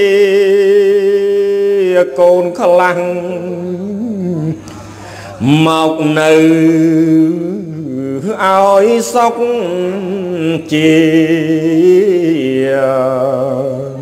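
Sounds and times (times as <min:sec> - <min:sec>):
monk chanting: 0:00.0 - 0:04.6, 0:05.2 - 0:14.0.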